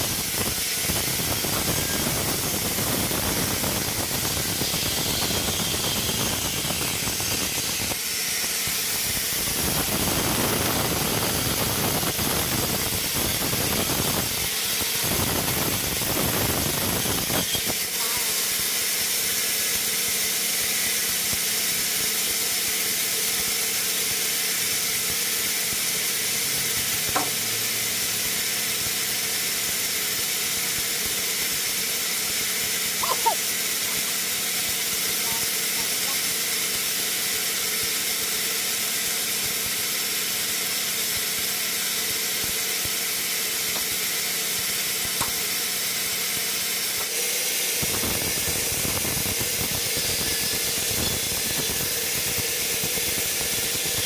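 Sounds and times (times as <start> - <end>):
sawmill machinery hissing: 0.0 - 54.0.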